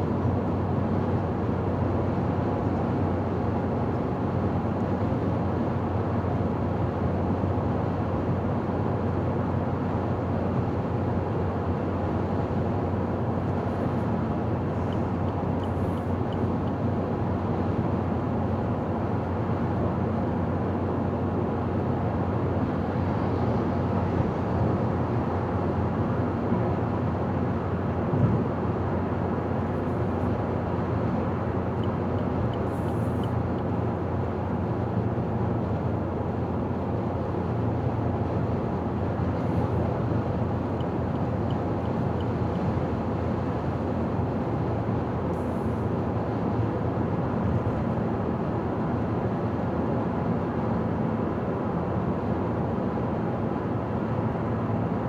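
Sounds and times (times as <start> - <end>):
car driving on highway: 0.1 - 55.0.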